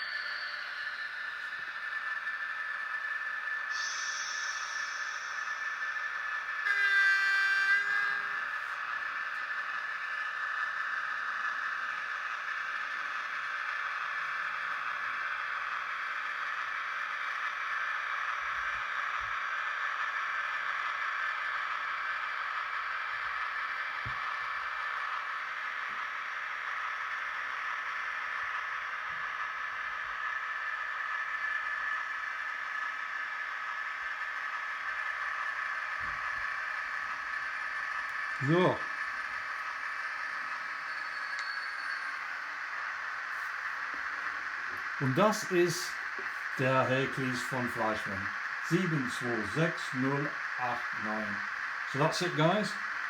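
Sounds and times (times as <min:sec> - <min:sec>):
diesel engine sound from small speaker: 0:00.0 - 0:53.0.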